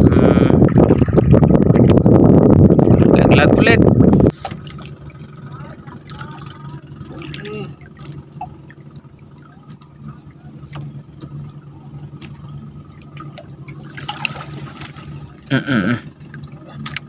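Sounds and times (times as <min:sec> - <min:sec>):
steady low hum: 0:00.0 - 0:17.0
water trickling and splashing: 0:00.4 - 0:17.0.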